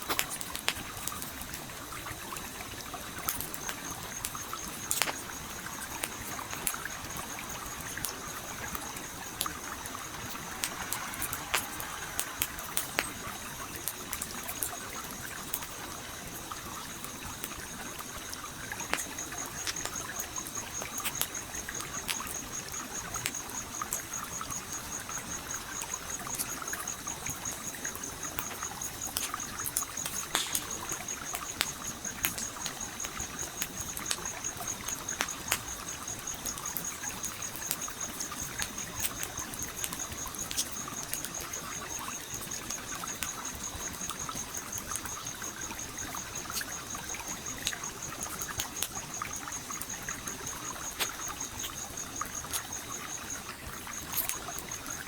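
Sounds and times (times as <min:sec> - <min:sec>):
campfire crackling and popping: 0:00.0 - 0:55.0
stream flowing: 0:00.9 - 0:55.0.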